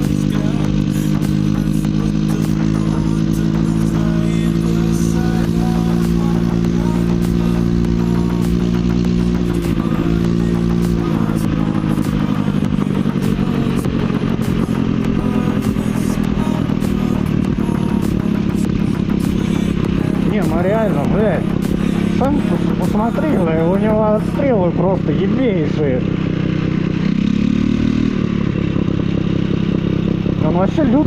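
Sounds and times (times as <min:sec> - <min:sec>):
scooter engine running: 0:00.0 - 0:31.0.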